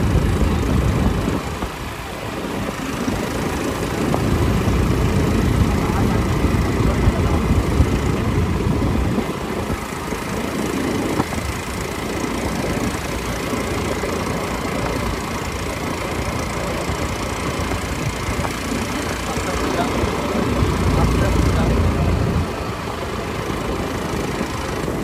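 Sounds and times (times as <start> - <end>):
quad bike engines running: 0.0 - 25.0.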